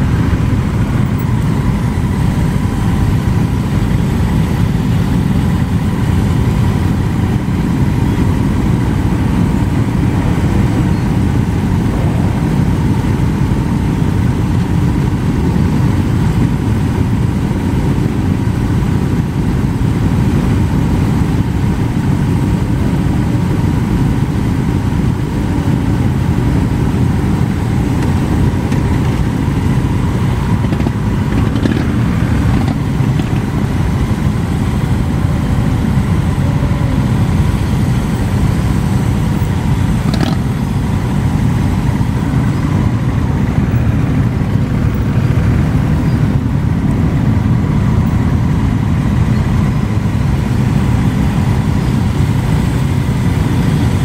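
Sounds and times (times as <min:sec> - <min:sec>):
motorcycle engines rumbling: 0:00.0 - 0:54.0.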